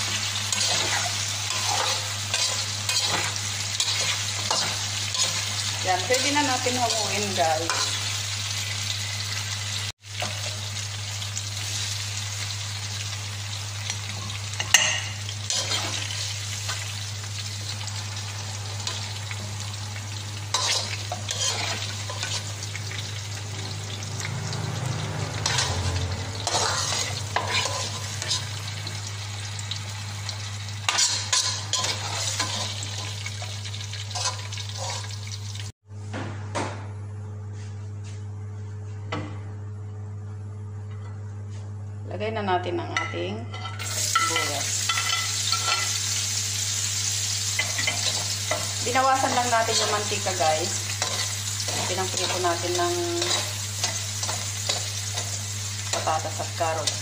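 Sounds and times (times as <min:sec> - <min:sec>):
vegetables sizzling in hot oil: 0:00.0 - 0:35.8, 0:43.8 - 0:57.0.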